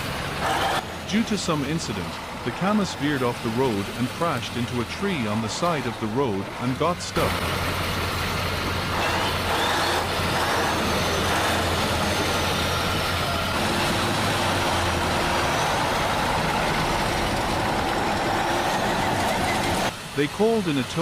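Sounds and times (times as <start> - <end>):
heavy truck engine roaring: 0.0 - 21.0.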